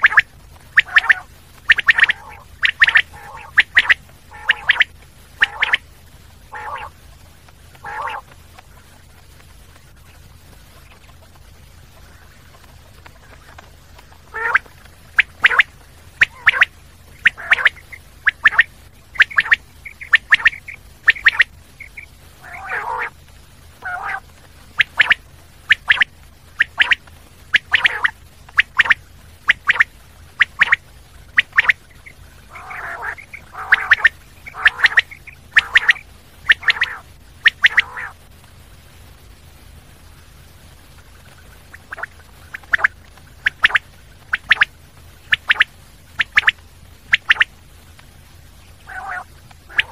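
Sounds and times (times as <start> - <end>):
quail calling: 0.0 - 7.0, 7.7 - 9.2, 9.9 - 23.2, 23.8 - 38.2, 41.1 - 47.5, 48.7 - 49.9.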